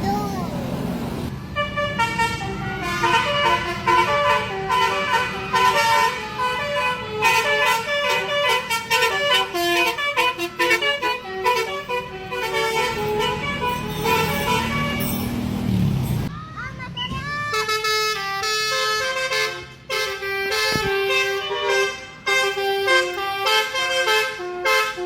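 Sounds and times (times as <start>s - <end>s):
multi-tone bus horn playing tune: 1.5s - 15.5s, 17.1s - 25.0s.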